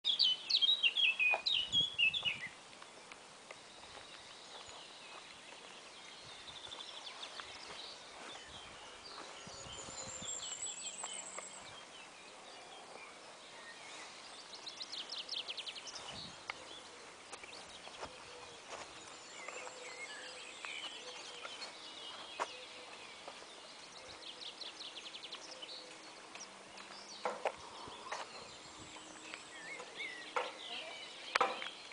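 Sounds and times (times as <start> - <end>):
faint outdoor background noise: 0.0 - 31.9
small birds singing and chirping: 0.0 - 31.9.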